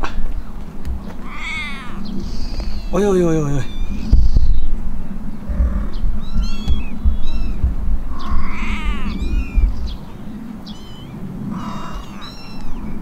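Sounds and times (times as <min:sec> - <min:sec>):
kittens mewing: 0:01.0 - 0:04.5, 0:05.4 - 0:13.0.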